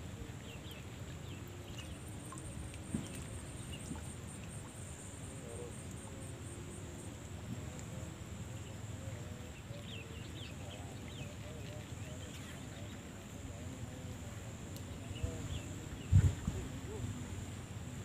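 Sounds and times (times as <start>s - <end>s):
outdoor noise: 0.0s - 18.0s.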